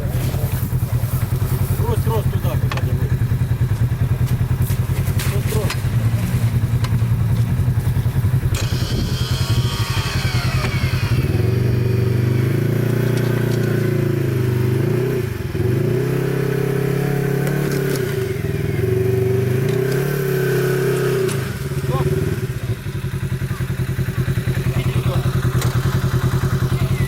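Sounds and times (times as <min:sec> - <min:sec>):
off-road vehicle engine revving: 0:00.0 - 0:27.0.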